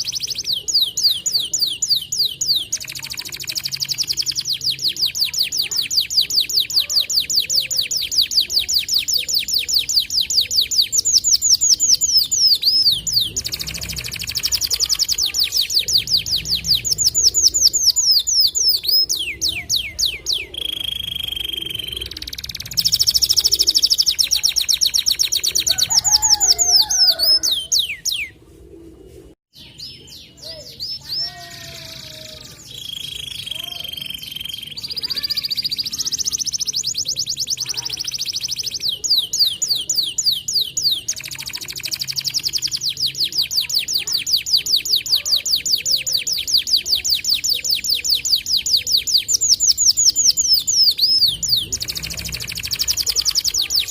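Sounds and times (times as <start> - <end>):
canary singing trills: 0.0 - 28.4, 29.5 - 53.9.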